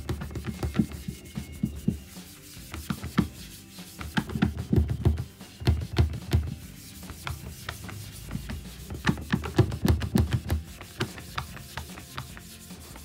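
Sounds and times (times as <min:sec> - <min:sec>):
cloth rubbing on wooden tabletop: 0:00.0 - 0:13.0.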